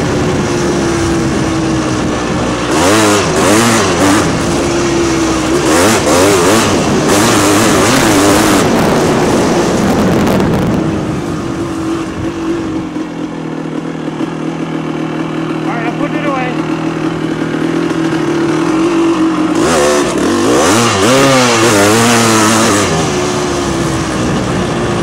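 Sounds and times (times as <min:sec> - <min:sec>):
atv engine revving: 0:00.0 - 0:25.0.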